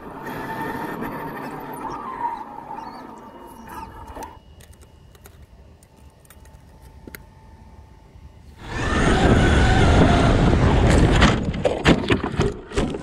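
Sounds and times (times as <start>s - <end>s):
rc car motor whine: 0.0s - 11.4s.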